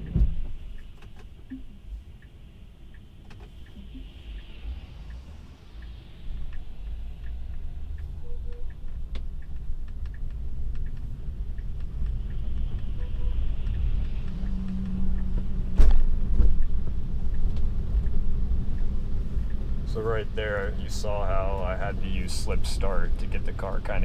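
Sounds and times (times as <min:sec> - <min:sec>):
light ticks: 0:00.0 - 0:24.0.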